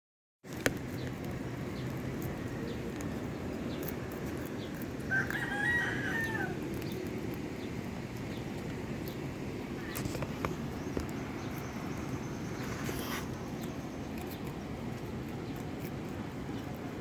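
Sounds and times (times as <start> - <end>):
low background noise: 0.5 - 17.0
drawn-out animal call: 1.2 - 17.0.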